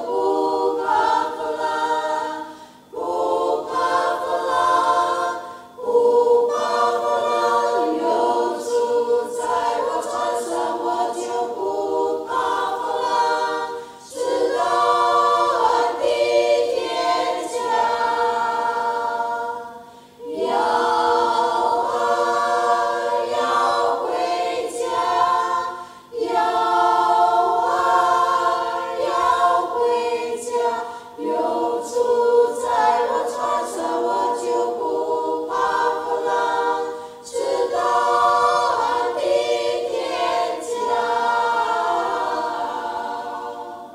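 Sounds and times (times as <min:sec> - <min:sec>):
women's choir singing a hymn: 0:00.0 - 0:43.9.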